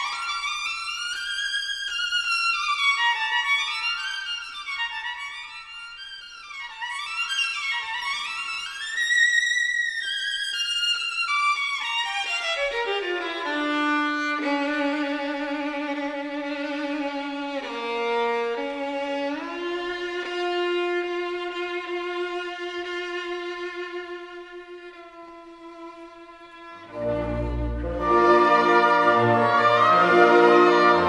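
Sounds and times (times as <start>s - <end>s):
violin melody: 0.0s - 31.0s.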